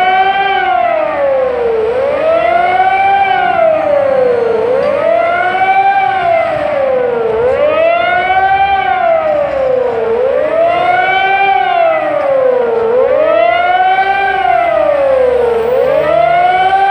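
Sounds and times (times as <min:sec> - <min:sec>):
siren wailing: 0:00.0 - 0:16.9.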